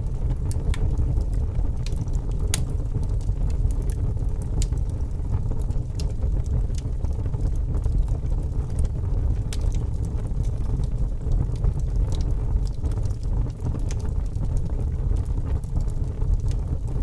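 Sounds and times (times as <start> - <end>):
fire crackles and pops: 0.0 - 17.0
fire flames rumbling: 0.0 - 17.0.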